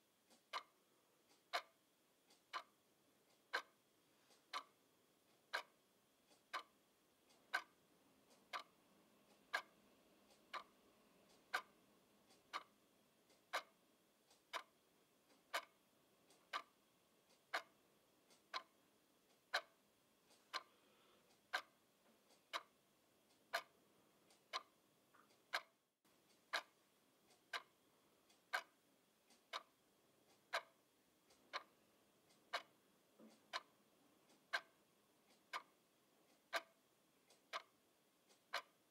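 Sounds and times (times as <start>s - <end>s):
alarm clock ticking: 0.0s - 38.9s.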